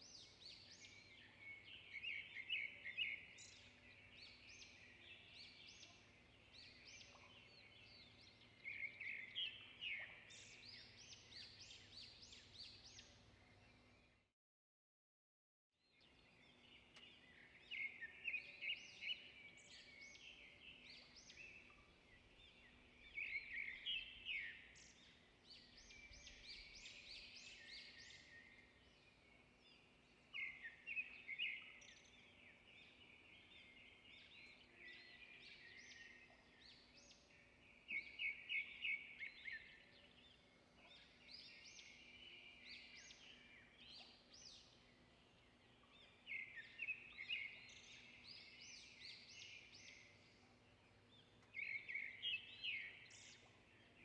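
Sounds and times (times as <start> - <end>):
small birds chirping: 0.0 - 14.3, 15.8 - 54.0.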